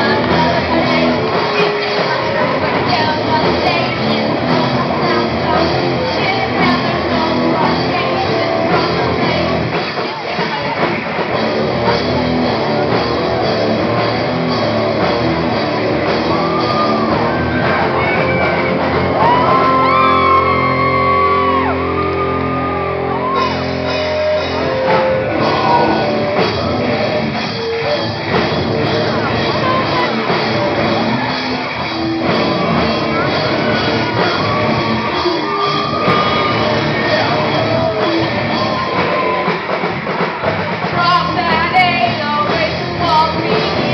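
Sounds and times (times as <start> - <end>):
person singing: 0.0 - 11.4, 16.0 - 39.7, 40.8 - 43.9
live rock band playing: 0.0 - 43.9.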